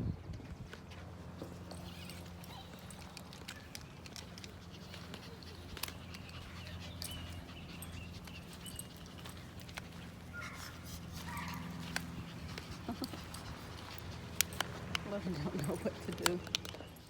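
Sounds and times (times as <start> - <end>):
footsteps: 0.7 - 16.4
small clicks of dog leash: 1.4 - 17.0.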